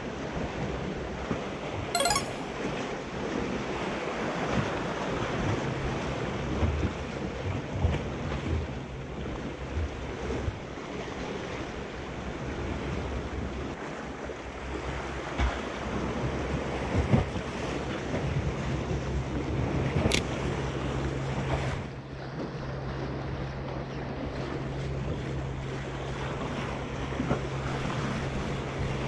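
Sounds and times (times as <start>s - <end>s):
sea: 0.0s - 29.0s.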